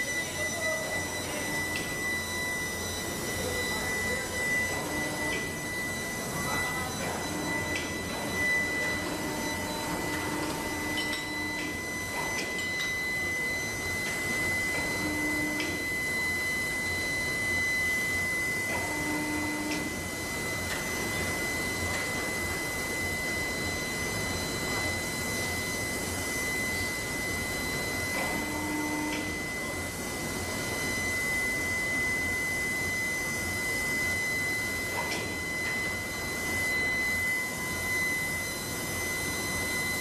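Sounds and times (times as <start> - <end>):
low machine hum: 0.0 - 40.0
machinery high whine: 0.0 - 40.0.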